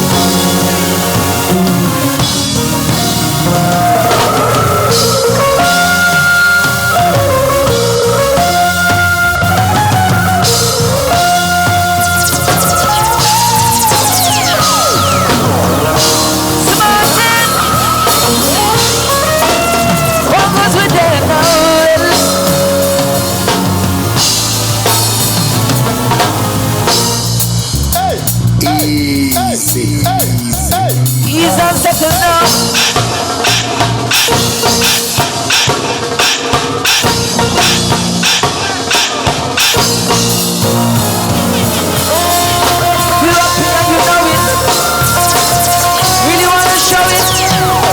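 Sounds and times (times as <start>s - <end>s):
melodic lead guitar line: 0.0s - 27.8s, 31.2s - 47.9s
bass: 0.0s - 35.7s, 36.8s - 39.0s, 39.6s - 47.9s
drums: 0.0s - 47.9s
reggae band playing: 0.0s - 47.9s.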